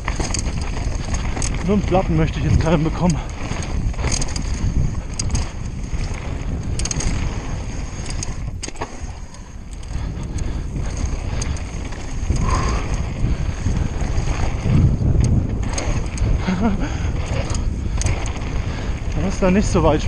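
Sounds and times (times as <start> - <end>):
bike rattling and clicking: 0.0 - 20.0
bike tyres rolling over rock: 0.0 - 20.0
wind on microphone: 0.0 - 20.0.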